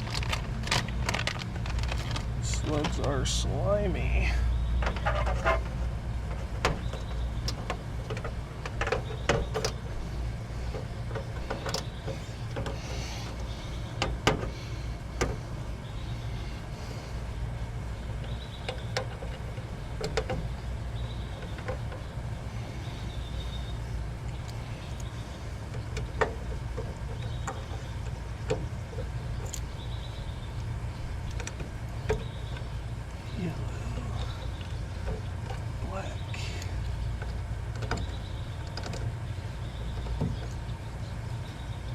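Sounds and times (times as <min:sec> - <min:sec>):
low rumble: 0:00.0 - 0:41.9.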